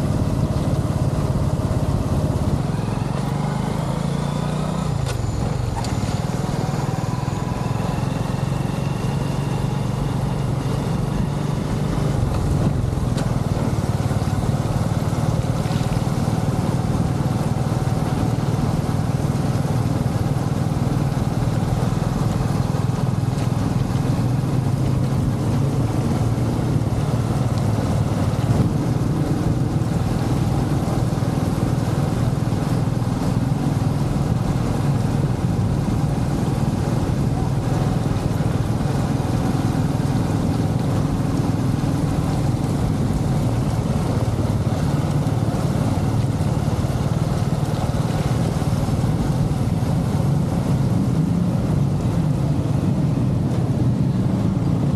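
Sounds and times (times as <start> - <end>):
road noise: 0.0 - 54.9.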